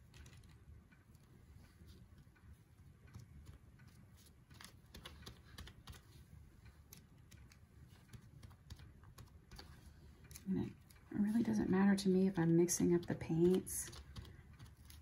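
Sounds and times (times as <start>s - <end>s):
fingertips tapping paint on paper: 0.0s - 15.0s.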